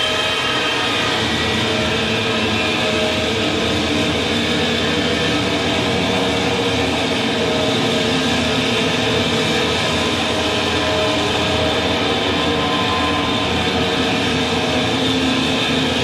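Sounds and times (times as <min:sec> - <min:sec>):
distorted electric guitar feedback: 0:00.0 - 0:16.0.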